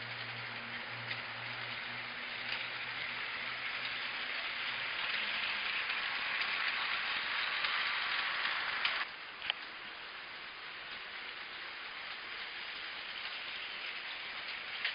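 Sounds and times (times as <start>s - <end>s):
toy train rattling on track: 0.0s - 14.9s.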